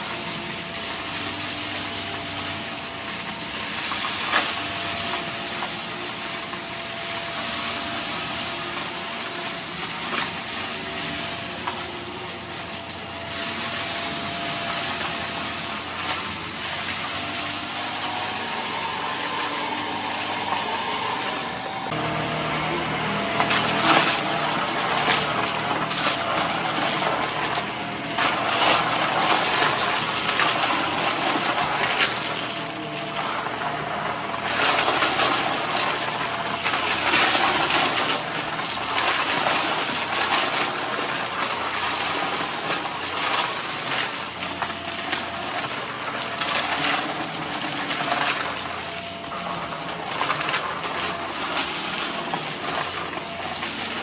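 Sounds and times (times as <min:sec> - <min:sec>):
debris clicking and rattling: 0:00.0 - 0:21.9, 0:23.4 - 0:33.5, 0:34.3 - 0:54.0
vacuum cleaner running: 0:00.0 - 0:54.0.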